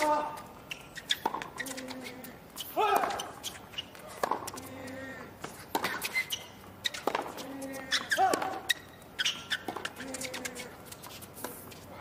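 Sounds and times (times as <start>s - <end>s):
racquets striking tennis ball: 0.0s - 11.8s
sneakers squeaking on court: 0.0s - 12.0s.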